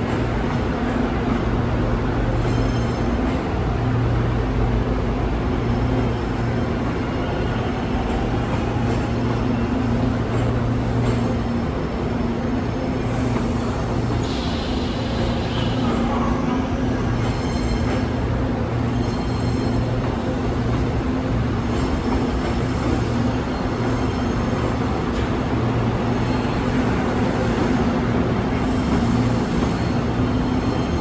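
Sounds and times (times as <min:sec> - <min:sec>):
train electrical hum: 0:00.0 - 0:31.0.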